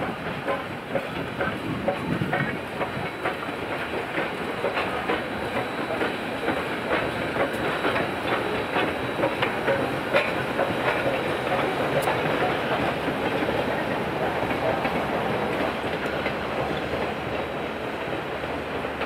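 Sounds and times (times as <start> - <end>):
train rumble: 0.0 - 19.0
wheels clicking over rail joints: 0.0 - 19.0.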